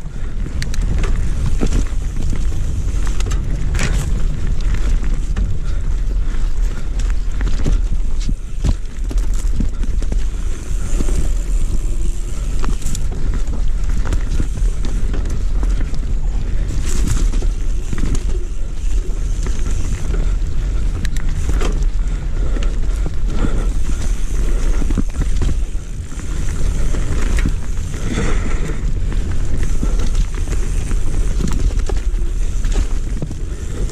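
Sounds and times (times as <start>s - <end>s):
bike knocks and rattles: 0.0s - 33.9s
tyre rumble: 0.0s - 33.9s
wind buffeting microphone: 0.0s - 33.9s.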